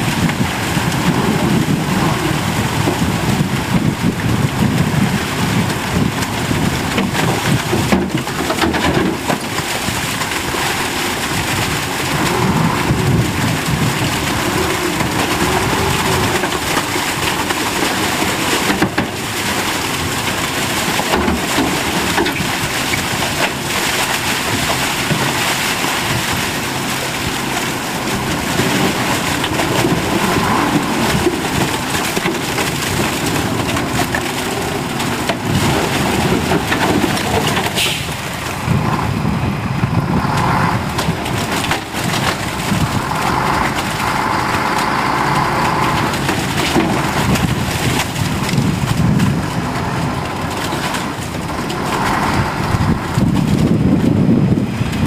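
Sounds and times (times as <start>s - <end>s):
dump truck engine rumbling: 0.0s - 55.0s
mud and rubble spilling: 0.0s - 55.0s.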